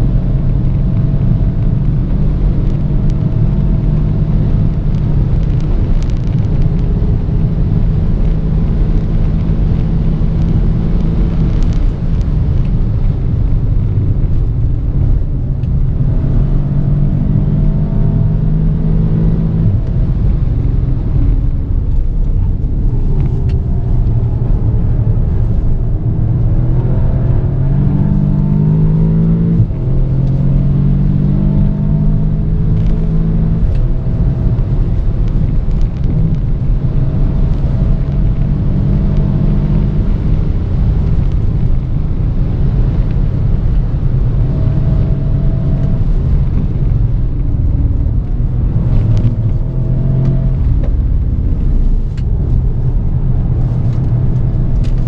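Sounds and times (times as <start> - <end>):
turbocharged engine at full throttle: 0.0 - 55.0.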